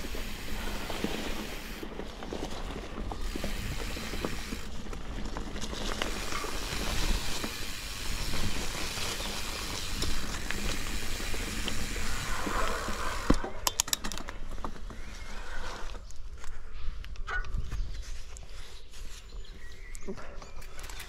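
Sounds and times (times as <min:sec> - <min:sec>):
bike clicking and rattling: 0:00.0 - 0:18.4, 0:20.2 - 0:21.0
bike tyres on dirt trail: 0:00.0 - 0:21.0.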